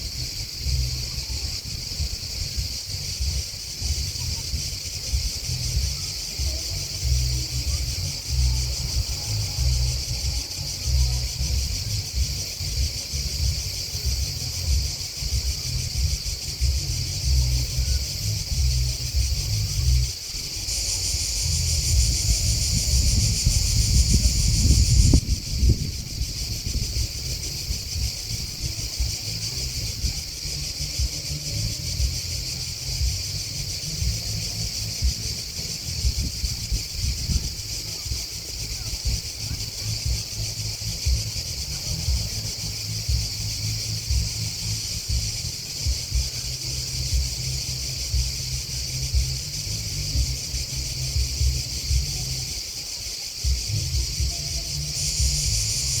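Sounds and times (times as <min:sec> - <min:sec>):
insects singing in chorus: 0:00.0 - 0:56.0.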